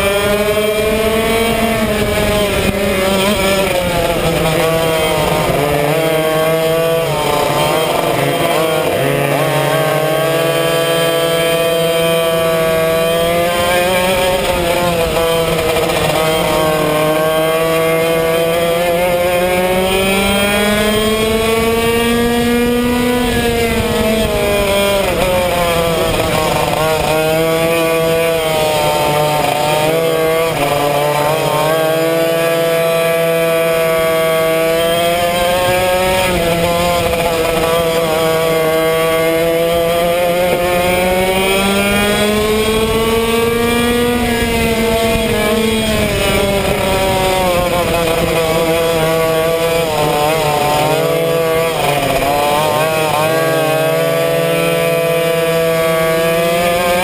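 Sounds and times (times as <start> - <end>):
two-stroke kart engine racing: 0.0 - 57.0.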